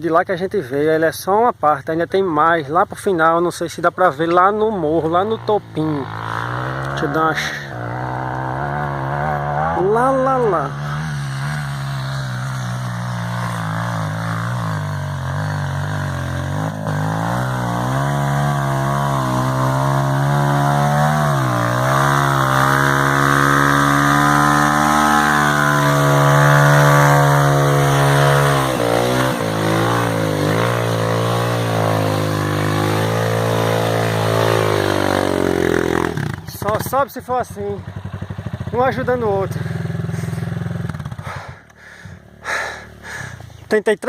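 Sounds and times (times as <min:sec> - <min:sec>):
motorcycle engine revving: 0:03.9 - 0:43.6.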